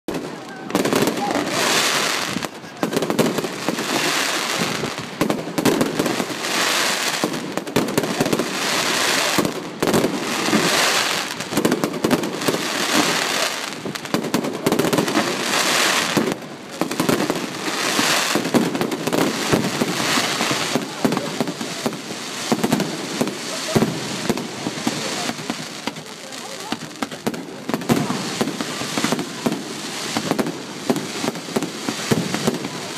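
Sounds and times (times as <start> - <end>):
fireworks bangs and crackles: 0.1 - 32.9.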